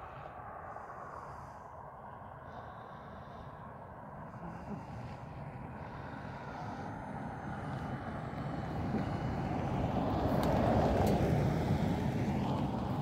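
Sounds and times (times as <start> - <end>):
vehicle driving past: 0.0 - 13.0.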